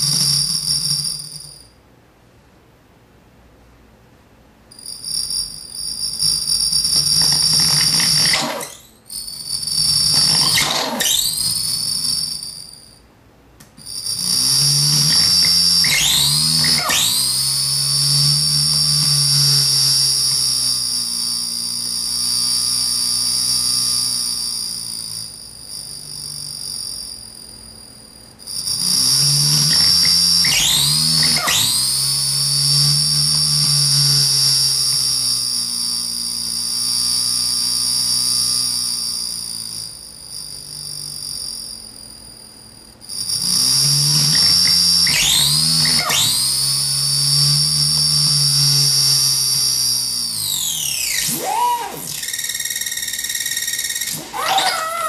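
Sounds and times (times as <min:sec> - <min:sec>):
high electronic whine sweeping up: 0:00.0 - 0:01.7, 0:04.7 - 0:13.0, 0:13.7 - 0:55.0.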